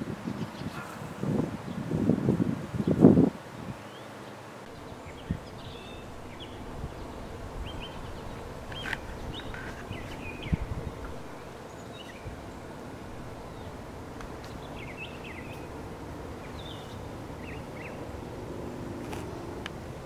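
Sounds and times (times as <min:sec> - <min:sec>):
steady background noise: 0:00.0 - 0:20.0
small birds chirping: 0:03.8 - 0:19.9.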